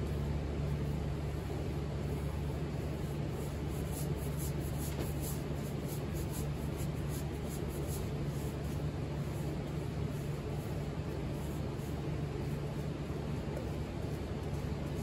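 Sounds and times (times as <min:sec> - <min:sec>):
workshop hum: 0:00.0 - 0:15.0
light scratchy strokes: 0:00.6 - 0:15.0.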